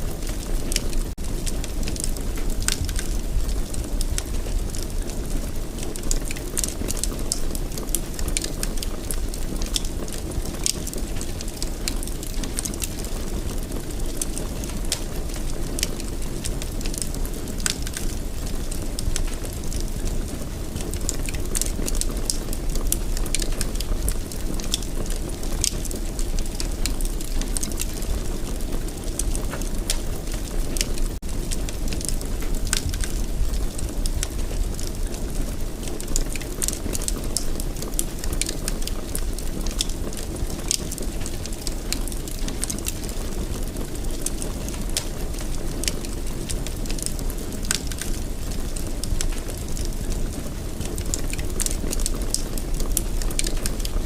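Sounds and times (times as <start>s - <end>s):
fire crackling and popping: 0.0s - 54.0s
fire low rumble: 0.0s - 54.0s.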